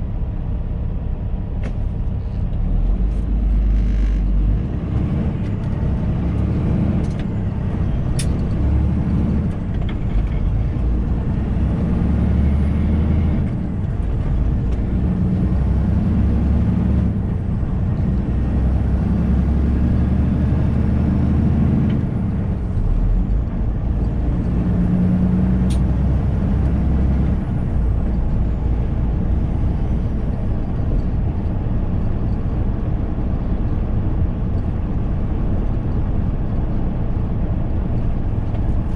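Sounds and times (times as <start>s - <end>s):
truck engine changing gears: 0.0s - 38.9s.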